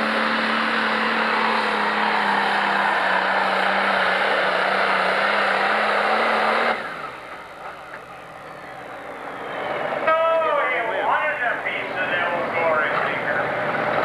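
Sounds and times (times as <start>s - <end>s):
diesel engine at full load: 0.0s - 14.0s.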